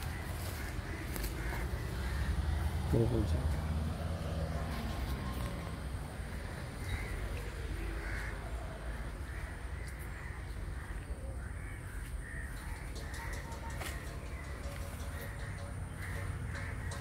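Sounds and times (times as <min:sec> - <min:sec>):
crows cawing: 0:00.0 - 0:04.0, 0:05.4 - 0:17.0.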